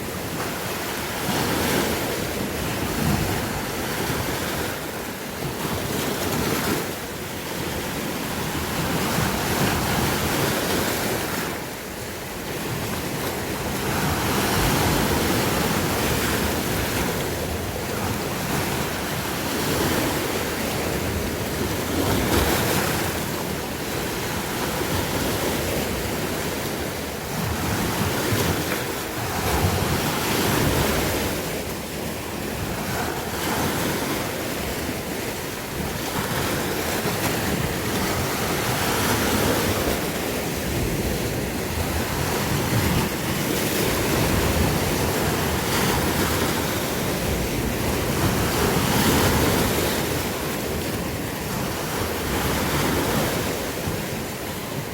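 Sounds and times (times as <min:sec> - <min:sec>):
sea waves washing ashore: 0:00.0 - 0:54.9.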